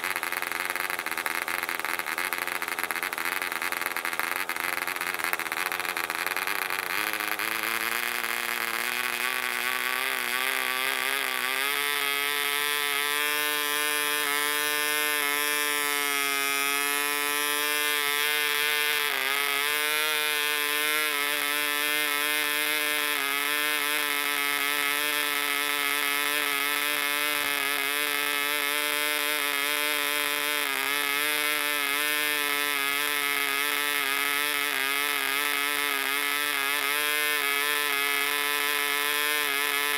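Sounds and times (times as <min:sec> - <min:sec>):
model engine whining: 0:00.0 - 0:39.9.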